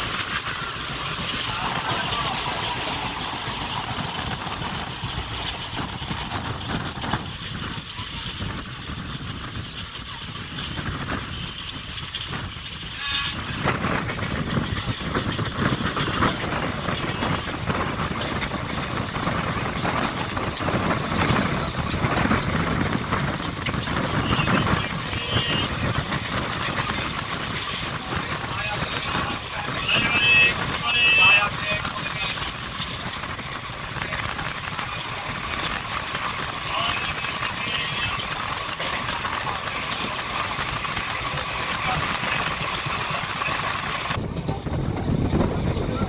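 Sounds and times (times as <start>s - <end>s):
train wheels clattering on rails: 0.0s - 46.0s.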